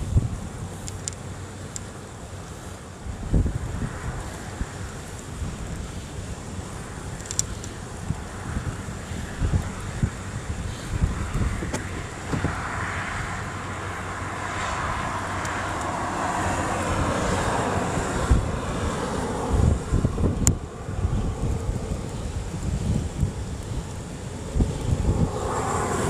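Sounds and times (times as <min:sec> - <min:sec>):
airplane engine passing: 0:00.0 - 0:26.0
wind buffeting microphone: 0:00.0 - 0:26.0.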